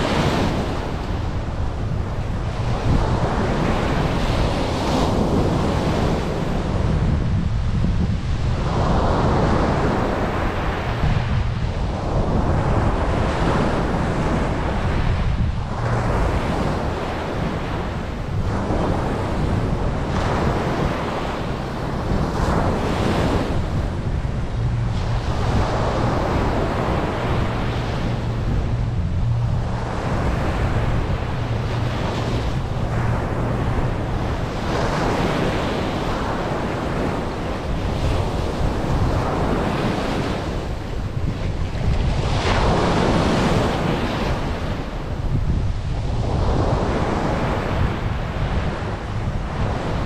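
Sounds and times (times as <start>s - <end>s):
steady low rumble: 0.0s - 50.0s
surf washing up a beach: 0.0s - 50.0s.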